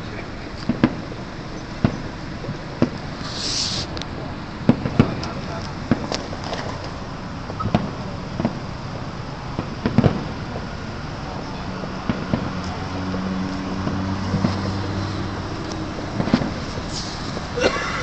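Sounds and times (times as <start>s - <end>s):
roadside background noise: 0.0s - 18.0s
vehicle engine hum: 0.0s - 18.0s
distant fireworks bangs: 0.2s - 18.0s.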